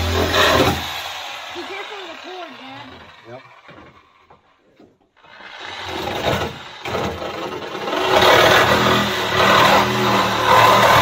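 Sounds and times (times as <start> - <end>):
reciprocating saw cutting metal: 0.0 - 4.5, 5.2 - 11.0.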